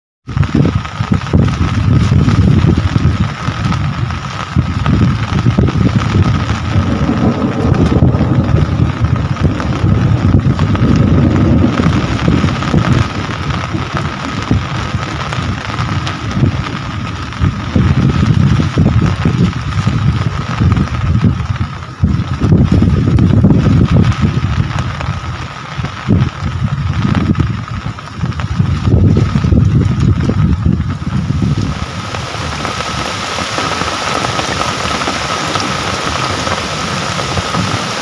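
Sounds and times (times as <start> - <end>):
deep rumble: 0.2 - 38.0
heavy rain pouring: 0.2 - 38.0.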